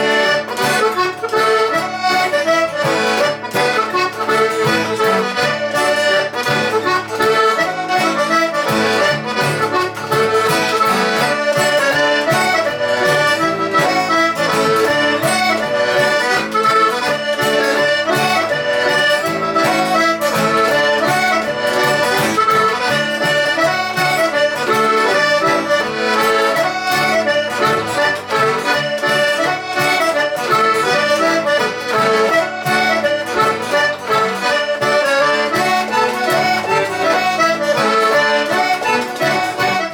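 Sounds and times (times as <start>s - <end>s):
accordion music: 0.0s - 39.9s
guitar accompaniment: 0.0s - 39.9s.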